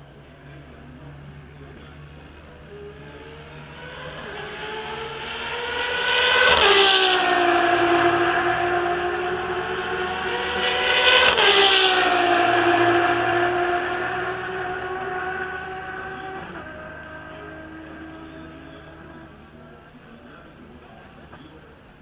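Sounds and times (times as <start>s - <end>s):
race car engines passing: 0.0s - 21.9s.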